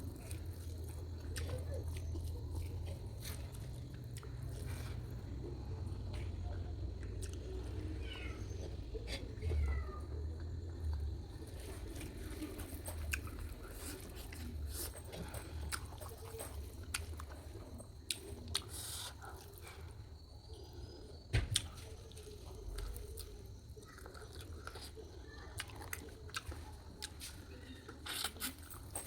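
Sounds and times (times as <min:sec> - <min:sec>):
person chewing food: 0:00.0 - 0:07.9, 0:08.5 - 0:21.0, 0:21.6 - 0:29.0.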